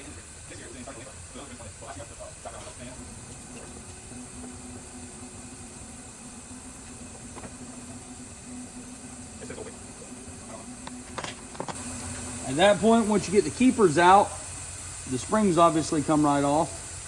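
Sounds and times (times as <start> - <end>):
faint workshop hiss: 0.0 - 17.0
steady low hum: 0.0 - 17.0.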